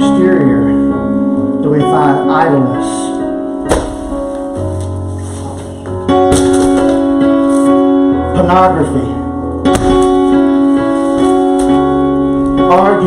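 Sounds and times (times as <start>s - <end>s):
held piano-like keyboard chords: 0.0s - 13.0s.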